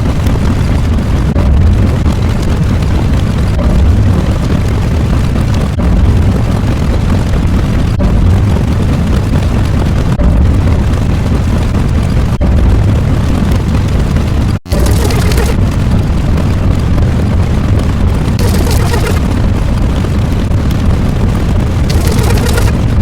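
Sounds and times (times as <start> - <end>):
loud low rumbling sound effect: 0.0 - 23.0.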